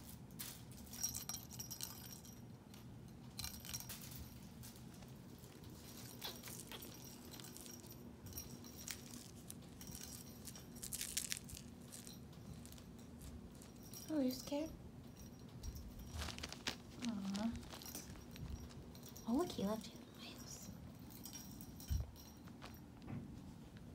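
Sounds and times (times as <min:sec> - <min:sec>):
faint steady hum: 0:00.0 - 0:23.9
bell in cat toy ball jingling: 0:00.4 - 0:02.5, 0:03.1 - 0:23.0.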